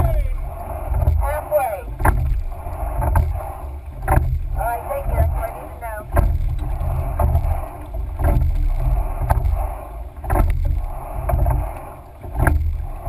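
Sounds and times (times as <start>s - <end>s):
oars clunking in oarlocks: 0.0s - 13.0s
water rushing along hull: 0.0s - 13.0s
wind rumble on microphone: 0.0s - 13.0s.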